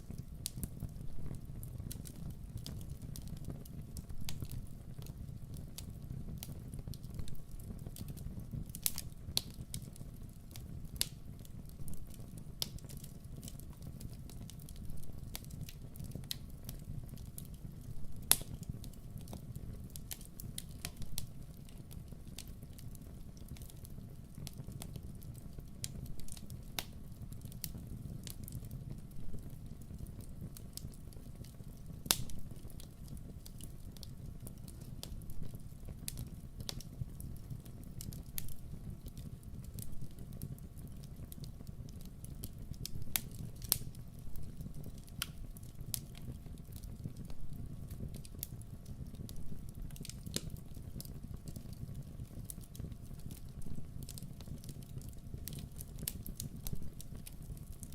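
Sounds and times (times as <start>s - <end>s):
burning wood crackling and popping: 0.0s - 57.9s
campfire flames rumbling: 0.0s - 57.9s.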